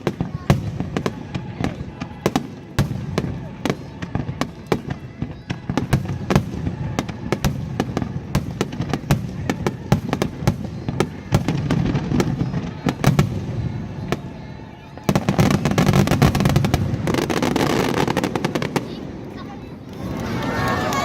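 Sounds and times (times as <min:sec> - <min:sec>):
low rumbling of firework bursts: 0:00.0 - 0:20.4
firework bangs: 0:00.0 - 0:21.0.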